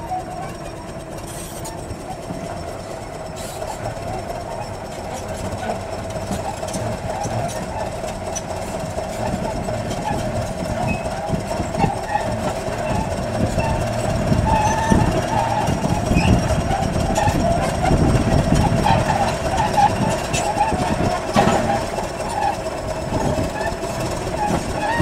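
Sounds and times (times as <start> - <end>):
bulldozer tracks clanking: 0.0 - 25.0
diesel engine under load: 0.0 - 25.0.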